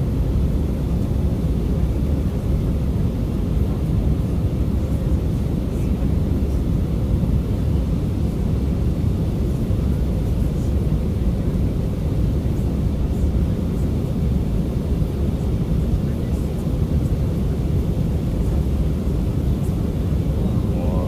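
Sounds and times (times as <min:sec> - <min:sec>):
faint hum: 0:00.0 - 0:21.0
jet engine cabin rumble: 0:00.0 - 0:21.0.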